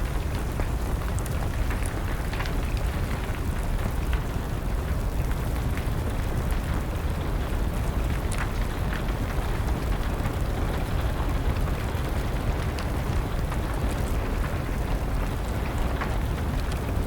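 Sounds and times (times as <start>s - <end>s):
rain falling: 0.0s - 17.0s
wood fire burning: 0.0s - 17.0s.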